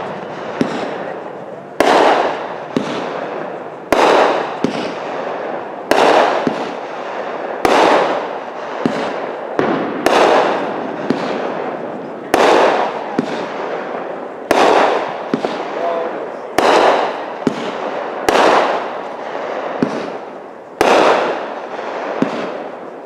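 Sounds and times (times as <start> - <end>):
small firework pops: 0.0 - 1.1, 1.8 - 5.0, 5.9 - 6.9, 7.6 - 13.5, 14.5 - 15.8, 16.5 - 23.0
fireworks bangs with hiss: 0.0 - 23.0.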